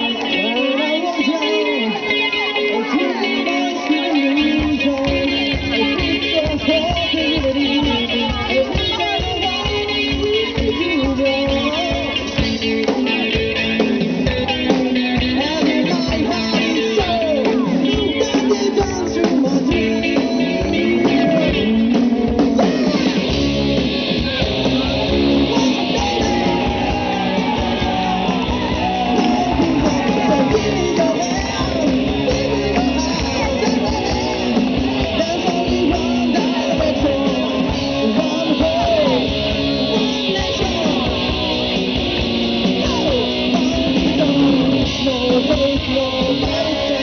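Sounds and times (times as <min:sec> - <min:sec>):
bass guitar: 0:00.0 - 0:47.0
electric guitars: 0:00.0 - 0:47.0
man singing lead vocals: 0:00.0 - 0:47.0
drum kit: 0:01.3 - 0:47.0.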